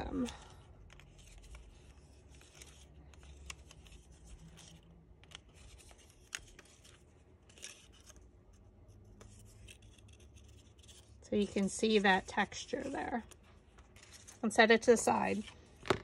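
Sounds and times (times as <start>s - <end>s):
paper rustling: 0.0s - 16.0s.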